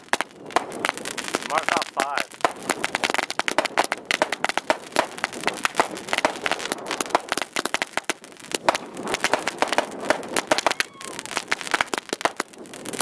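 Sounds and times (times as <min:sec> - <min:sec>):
firecrackers going off: 0:00.0 - 0:13.0.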